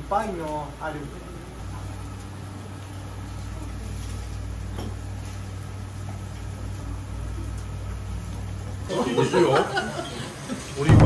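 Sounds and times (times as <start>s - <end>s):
ventilation hum: 0.0s - 11.0s.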